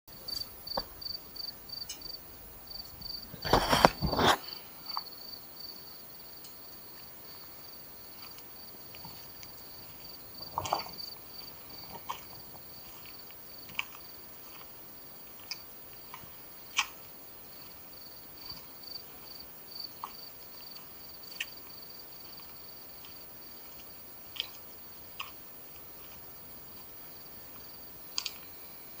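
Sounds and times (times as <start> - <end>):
cricket chirping: 0.1 - 29.0.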